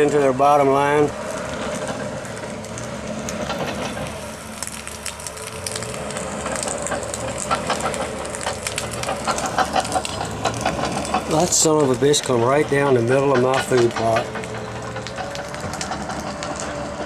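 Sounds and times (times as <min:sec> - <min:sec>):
brush fire crackling: 0:00.0 - 0:17.0
engine running: 0:00.0 - 0:17.0.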